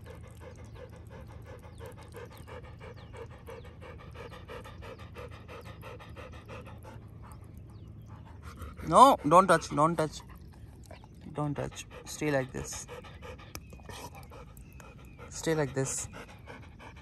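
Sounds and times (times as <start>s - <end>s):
dog panting hard: 0.0s - 17.0s.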